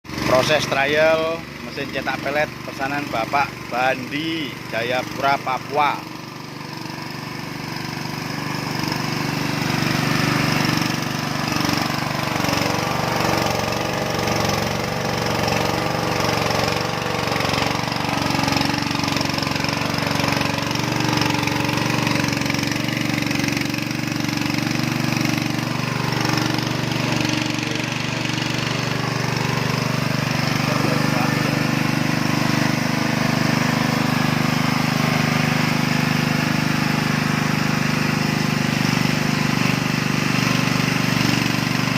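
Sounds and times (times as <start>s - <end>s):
pellet mill mechanical drone: 0.1s - 41.9s.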